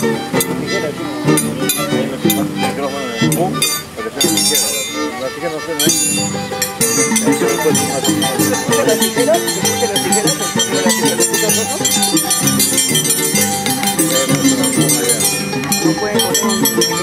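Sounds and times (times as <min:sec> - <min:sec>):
harp: 0:00.0 - 0:17.0
violin: 0:00.0 - 0:17.0.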